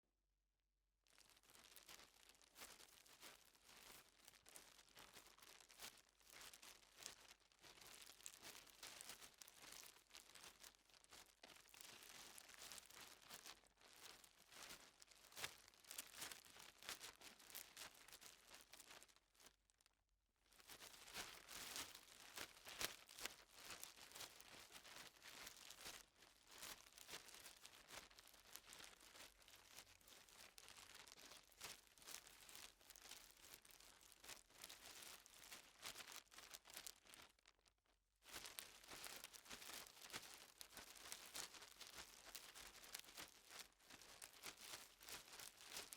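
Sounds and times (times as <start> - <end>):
plastic bag crinkling: 1.1 - 19.5, 20.6 - 37.6, 38.2 - 45.9.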